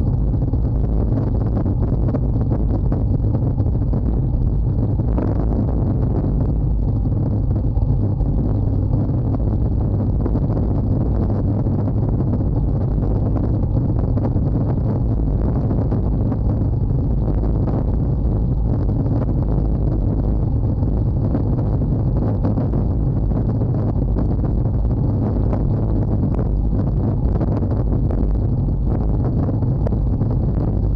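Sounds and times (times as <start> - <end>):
wind rumble on microphone: 0.0 - 30.9.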